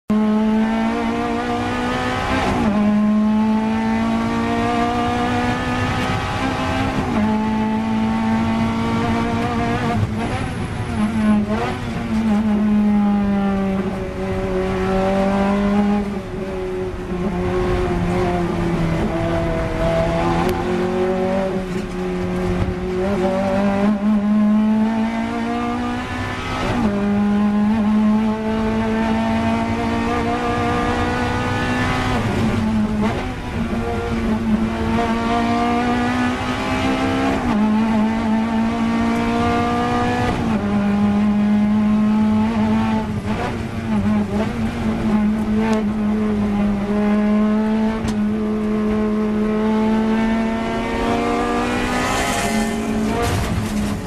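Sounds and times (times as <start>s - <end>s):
car engine at racing speed: 0.0s - 54.0s.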